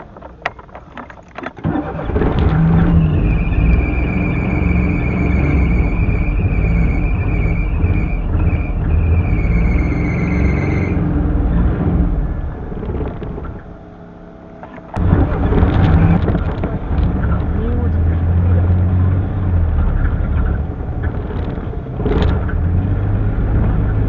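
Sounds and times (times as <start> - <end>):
small car engine running unevenly: 1.5 - 24.0
sudden loud noise: 1.7 - 13.8, 14.6 - 24.0
high-pitched squeal: 1.7 - 24.0.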